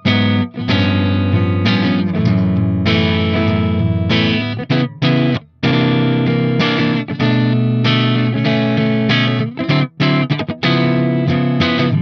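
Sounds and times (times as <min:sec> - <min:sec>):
clean electric guitar chords: 0:00.0 - 0:12.0.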